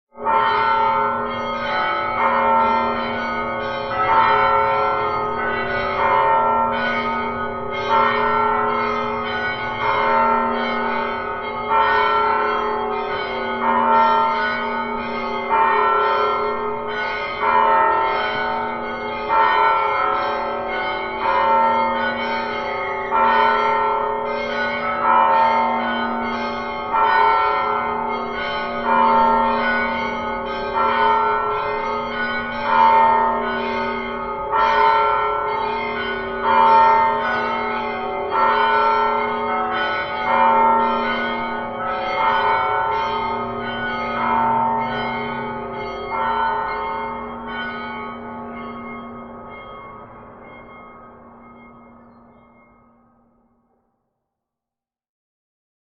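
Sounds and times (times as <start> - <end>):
church bells pealing: 0.1 - 53.7.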